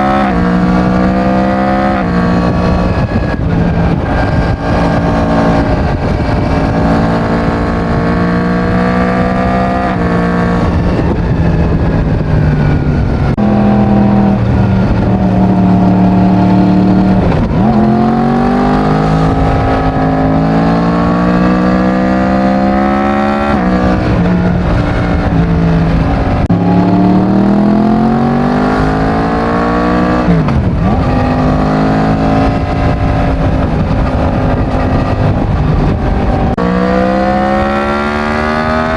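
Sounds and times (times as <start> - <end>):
motorcycle accelerating hard: 0.0 - 38.9.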